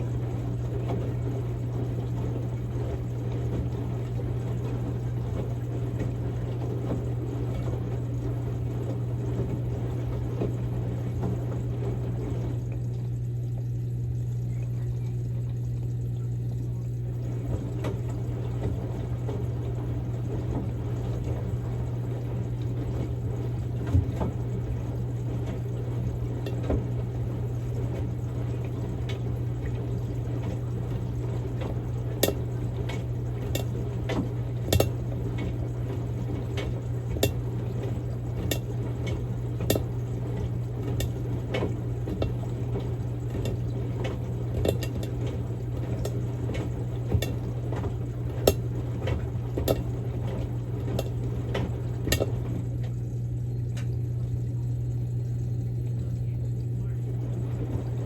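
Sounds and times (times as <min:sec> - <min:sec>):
washing machine motor hum: 0:00.0 - 0:58.0
water sloshing in drum: 0:00.0 - 0:58.0.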